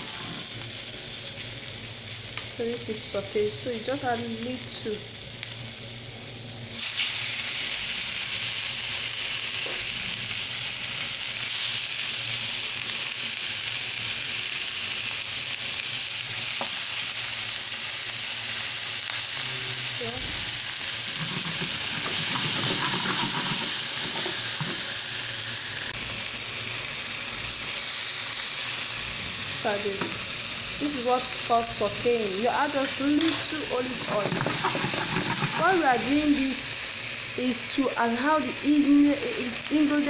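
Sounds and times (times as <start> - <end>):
meat sizzling in a pan: 0.0 - 40.0.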